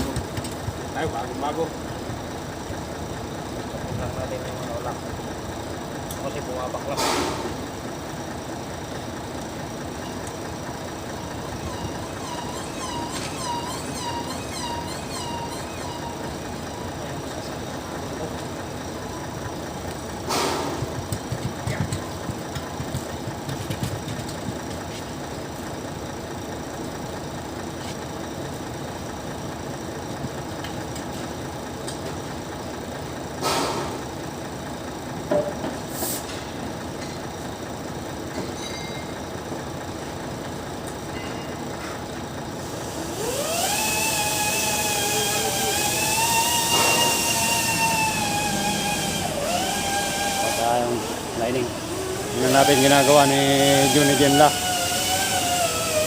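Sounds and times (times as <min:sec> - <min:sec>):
workshop engine hum: 0:00.0 - 0:56.0.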